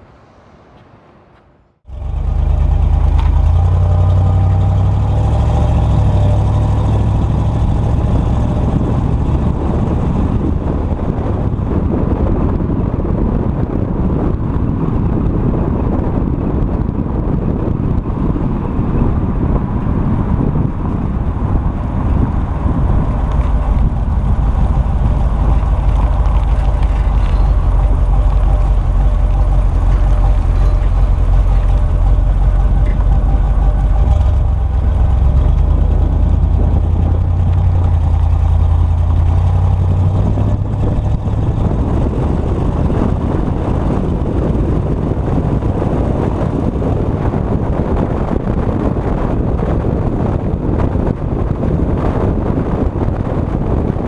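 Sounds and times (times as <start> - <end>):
road noise: 0.0 - 54.0
wind noise: 0.0 - 54.0
car engine running: 1.6 - 54.0.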